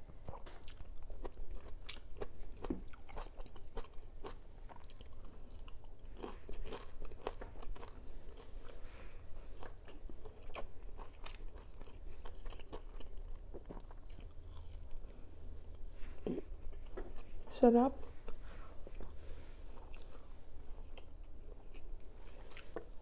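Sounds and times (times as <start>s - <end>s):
crunchy chewing: 0.2s - 17.5s, 18.1s - 23.0s.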